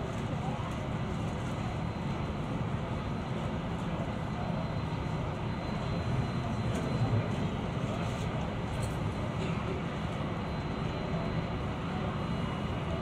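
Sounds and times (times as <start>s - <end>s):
airliner low rumble: 0.0s - 13.0s
faint high whine: 0.4s - 13.0s.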